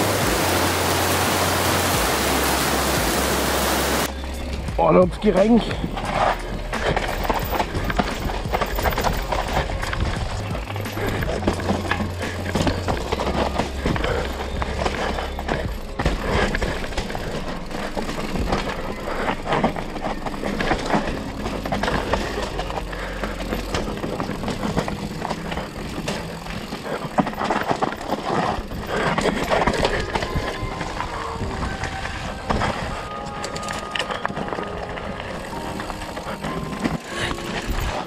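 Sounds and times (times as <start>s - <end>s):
bike chain and frame rattling: 0.0s - 38.0s
tyres crunching over stones: 0.0s - 38.0s.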